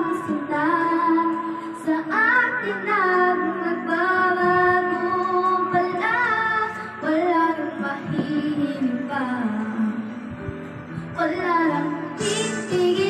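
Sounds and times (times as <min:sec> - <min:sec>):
backing music: 0:00.0 - 0:13.0
girl singing into microphone: 0:00.0 - 0:13.0.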